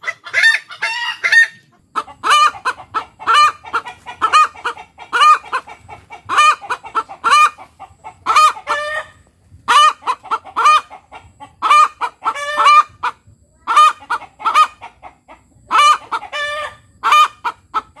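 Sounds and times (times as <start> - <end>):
hen cackling: 0.0 - 18.0.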